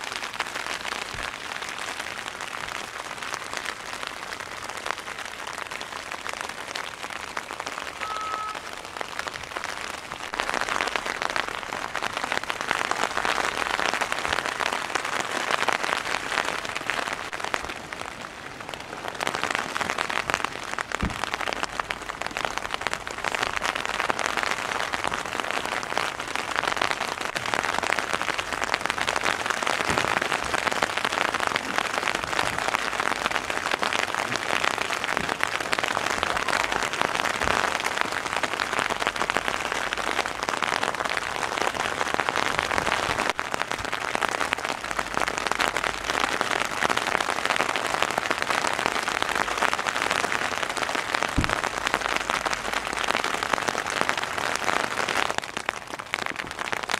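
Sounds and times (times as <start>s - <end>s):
rain falling on a tent: 0.0s - 56.9s.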